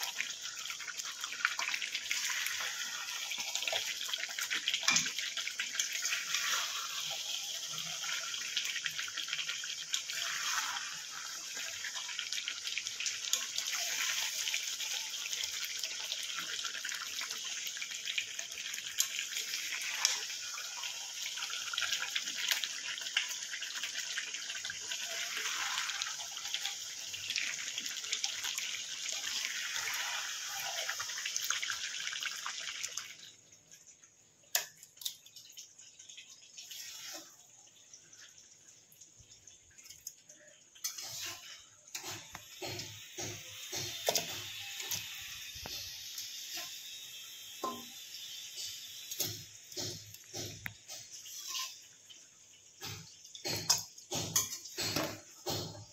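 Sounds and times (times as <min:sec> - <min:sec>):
meat sizzling in a pan: 0:00.0 - 0:33.2, 0:36.2 - 0:37.6, 0:39.9 - 0:55.9.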